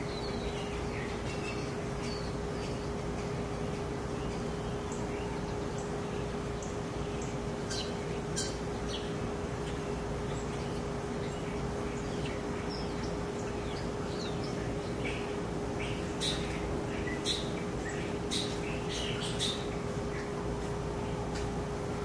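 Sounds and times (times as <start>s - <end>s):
small birds chirping: 0.0s - 21.8s
steady hum: 0.0s - 22.0s.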